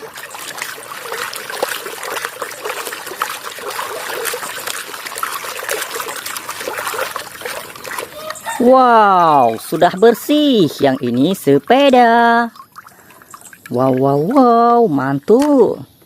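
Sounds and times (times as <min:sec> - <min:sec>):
water trickling and splashing: 0:00.0 - 0:15.9.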